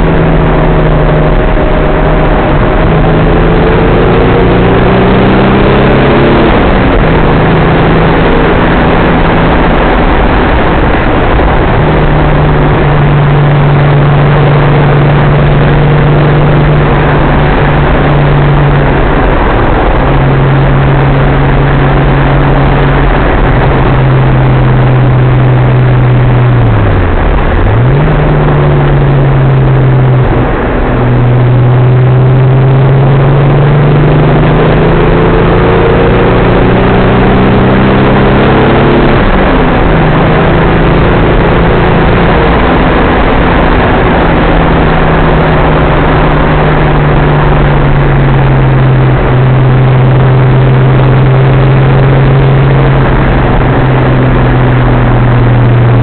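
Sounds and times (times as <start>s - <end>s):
road and wind noise: 0.0s - 56.0s
turbocharged car engine: 0.0s - 56.0s.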